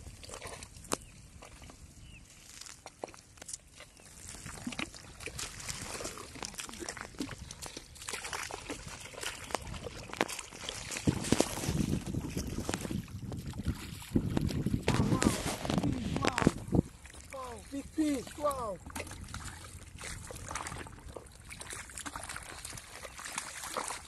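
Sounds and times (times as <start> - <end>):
wet mud squelching: 0.0 - 24.0.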